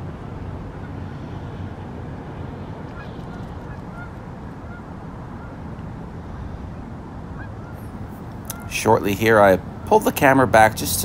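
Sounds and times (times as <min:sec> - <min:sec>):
distant city traffic rumble: 0:00.0 - 0:11.0.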